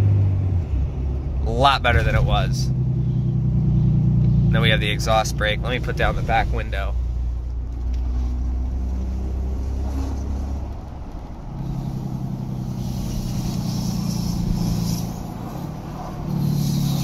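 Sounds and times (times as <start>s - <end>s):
diesel truck exhaust brake droning: 1.4s - 17.0s.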